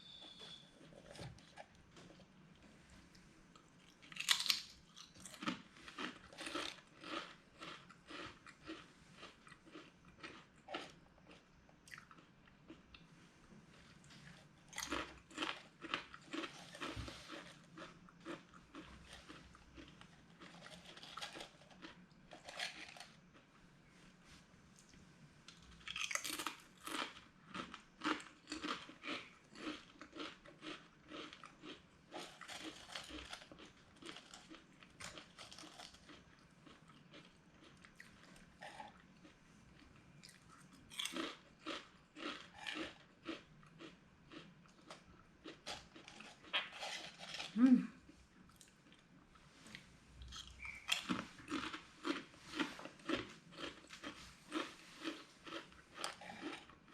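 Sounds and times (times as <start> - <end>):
person chewing crunchy chips: 3.6 - 13.0, 13.7 - 23.5, 25.5 - 56.9.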